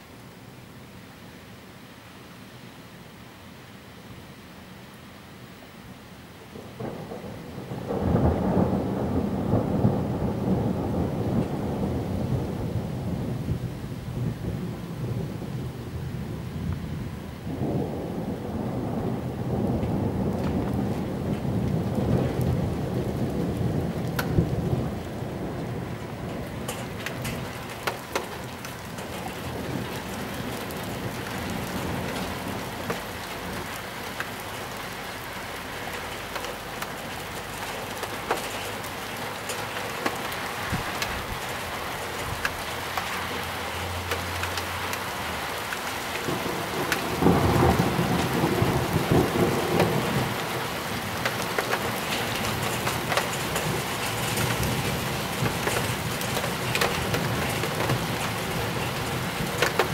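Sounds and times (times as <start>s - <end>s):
heavy rain pattering: 6.2s - 59.9s
thunder rumbling: 6.6s - 59.9s.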